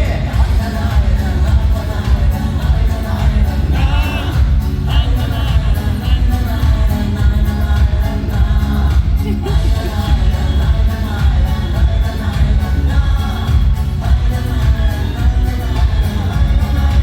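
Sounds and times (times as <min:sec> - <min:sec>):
person singing: 0:00.0 - 0:17.0
pop song with heavy bass: 0:00.0 - 0:17.0.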